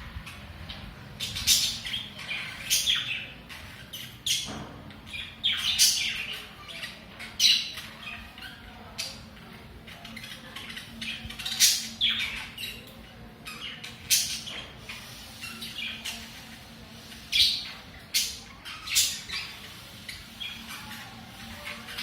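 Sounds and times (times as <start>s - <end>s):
budgerigars squawking and chirping: 0.3s - 4.5s, 5.1s - 22.0s.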